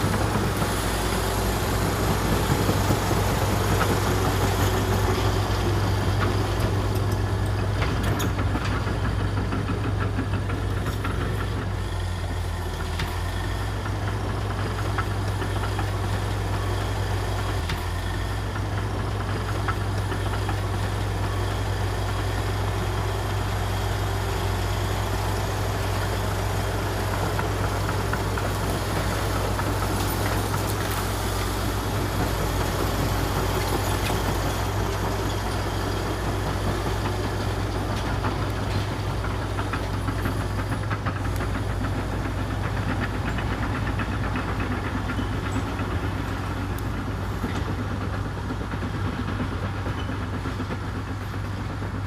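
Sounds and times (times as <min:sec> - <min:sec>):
bulldozer diesel engine running: 0:00.0 - 0:52.0
bulldozer tracks clanking: 0:00.0 - 0:52.0.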